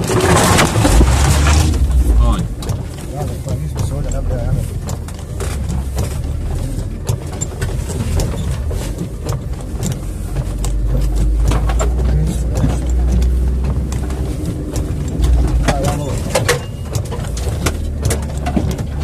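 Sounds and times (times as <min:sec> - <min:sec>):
off-road vehicle engine rumbling: 0:00.0 - 0:19.0
vehicle knocks and rattles: 0:00.0 - 0:19.0.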